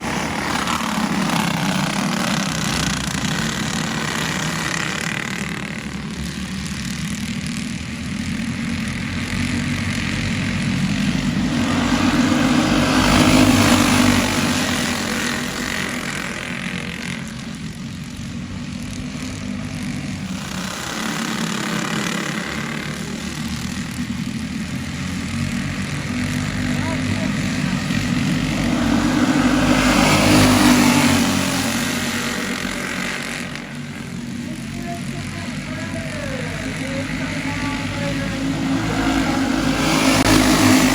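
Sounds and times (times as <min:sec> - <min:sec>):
kart engines racing: 0:00.0 - 0:40.9.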